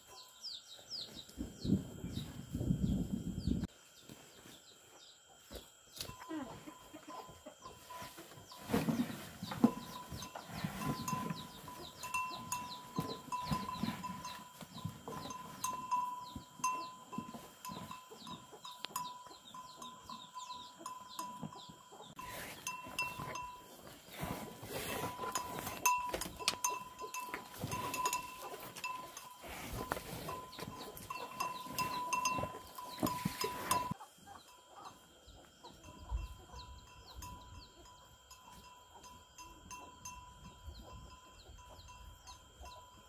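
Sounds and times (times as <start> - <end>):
farm animals low calls: 5.2 - 43.0.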